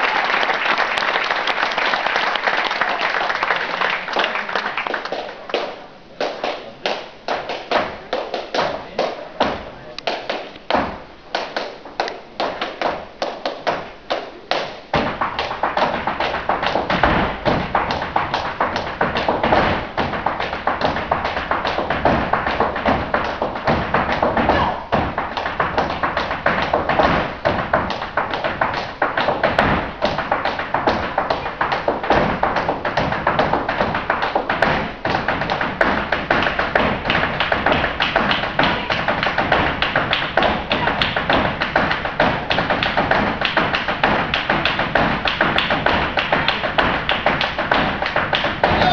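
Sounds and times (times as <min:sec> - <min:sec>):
dance shoes stamping on wooden stage: 0:00.9 - 0:48.9.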